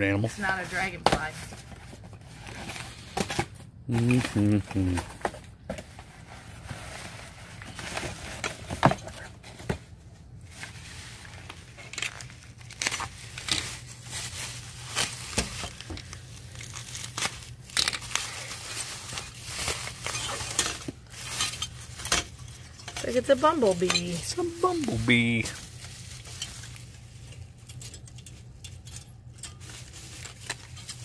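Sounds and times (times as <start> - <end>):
bubble wrap crinkling: 0.4 - 31.0.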